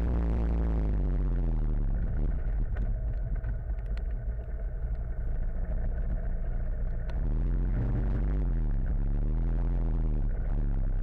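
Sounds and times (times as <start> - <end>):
motorcycle engine rumble: 0.0 - 11.0.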